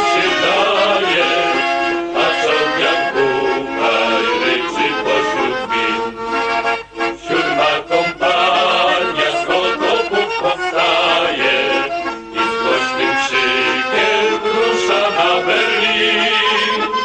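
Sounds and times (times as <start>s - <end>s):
accordion playing folk tune: 0.0s - 17.0s.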